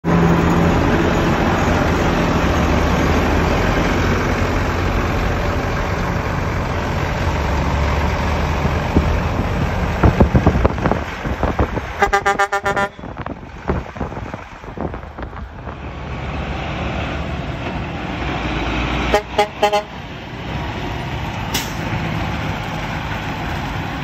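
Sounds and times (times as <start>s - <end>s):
diesel truck engine droning: 0.0s - 24.0s
road noise: 0.0s - 24.0s.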